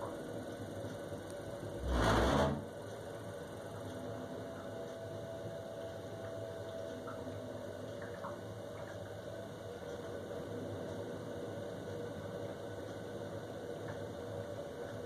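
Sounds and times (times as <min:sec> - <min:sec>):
boiler humming: 0:00.0 - 0:15.0.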